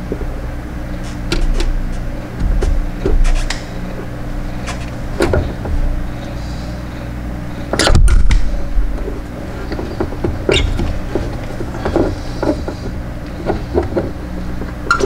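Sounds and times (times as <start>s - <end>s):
steady low hum: 0.0s - 15.0s
clicks and rubbing of wiring: 0.9s - 6.5s, 7.7s - 15.0s.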